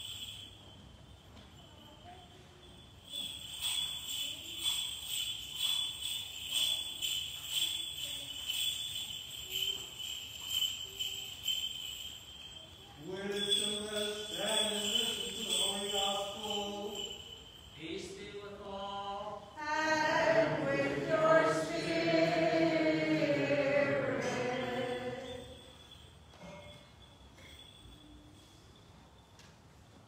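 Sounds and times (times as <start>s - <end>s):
censer bells jingling: 0.0s - 29.4s.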